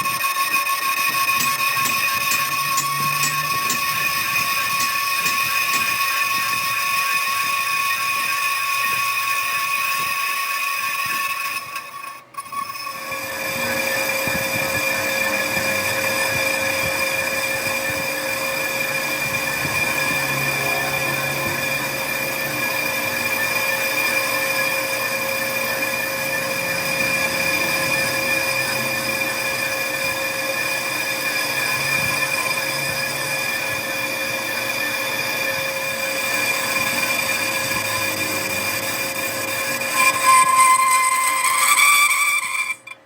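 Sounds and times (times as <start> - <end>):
machine whining: 0.0 - 43.0.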